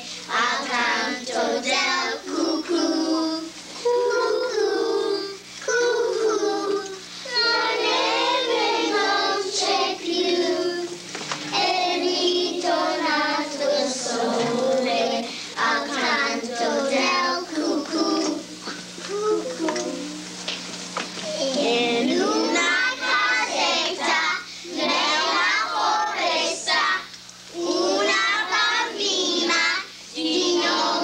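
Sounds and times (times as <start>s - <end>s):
children singing together: 0.0s - 18.8s, 21.5s - 31.0s
low electrical hum: 0.0s - 31.0s.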